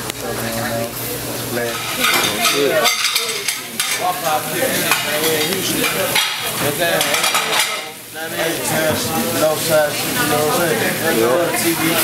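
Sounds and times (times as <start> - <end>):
food sizzling on a griddle: 0.0 - 12.0
indistinct voices: 0.0 - 12.0.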